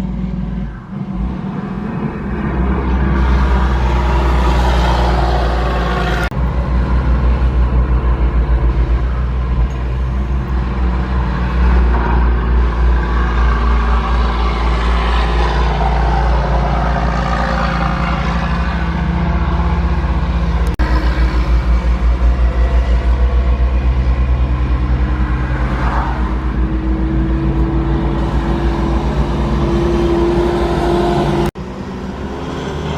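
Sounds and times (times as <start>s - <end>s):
truck engine rumbling: 0.0s - 32.9s.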